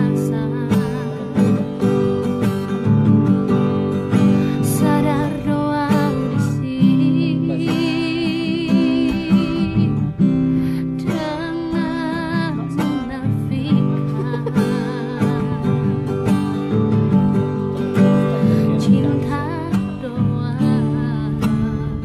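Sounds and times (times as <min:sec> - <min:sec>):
woman singing pop ballad: 0:00.0 - 0:02.7, 0:03.8 - 0:22.0
strummed guitar: 0:00.0 - 0:22.0.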